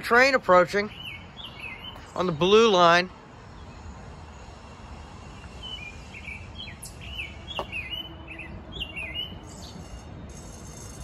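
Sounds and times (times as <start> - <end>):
small bird chirping: 0.9 - 2.5, 3.5 - 11.0.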